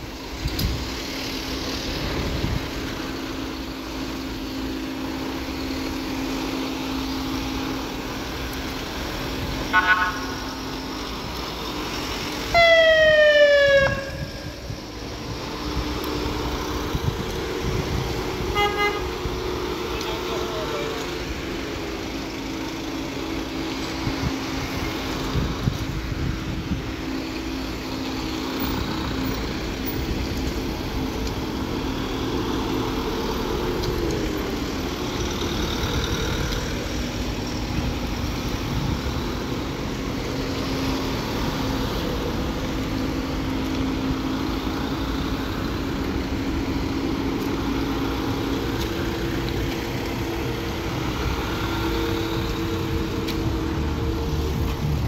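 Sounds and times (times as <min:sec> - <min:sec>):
van engines droning: 0:00.0 - 0:55.0.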